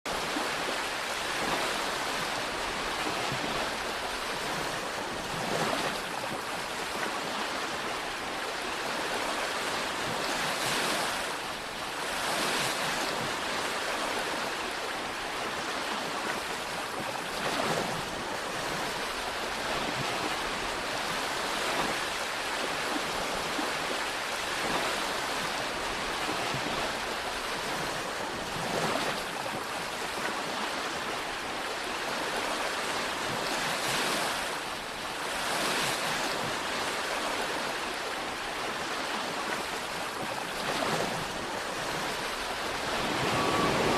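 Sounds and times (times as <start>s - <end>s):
sea waves washing onto shore: 0.1s - 43.9s.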